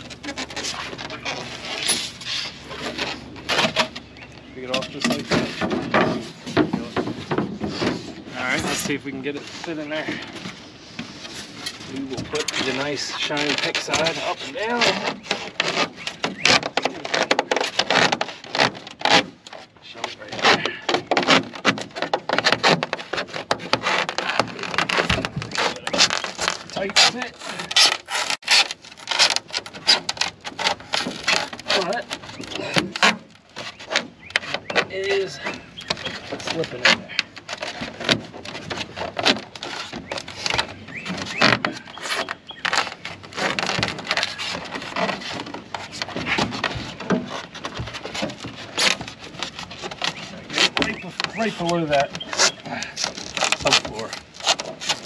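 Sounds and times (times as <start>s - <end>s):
foam scraping on metal: 0.0s - 55.0s.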